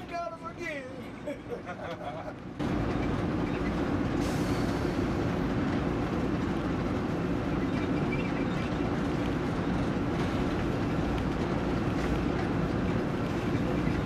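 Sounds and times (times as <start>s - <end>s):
locomotive engine: 0.0s - 14.0s
wheels on rails: 2.4s - 14.0s.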